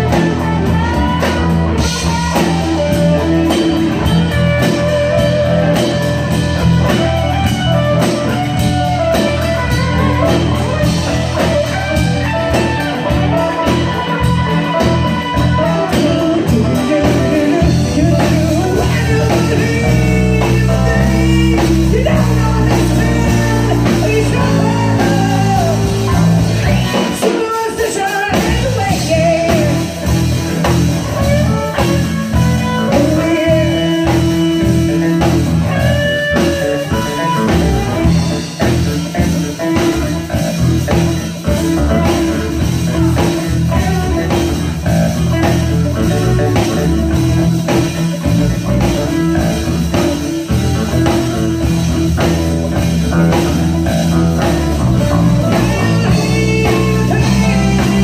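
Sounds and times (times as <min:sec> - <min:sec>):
bass guitar: 0:00.0 - 0:58.0
drum kit: 0:00.0 - 0:58.0
electric guitars: 0:00.0 - 0:58.0
keyboard: 0:00.0 - 0:58.0.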